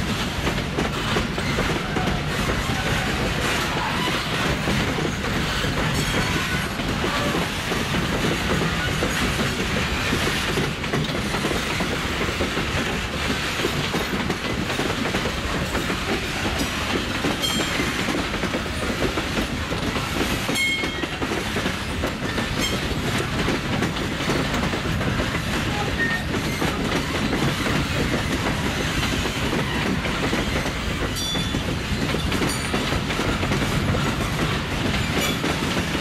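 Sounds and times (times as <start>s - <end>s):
train wheels clattering over rail joints: 0.0s - 36.0s.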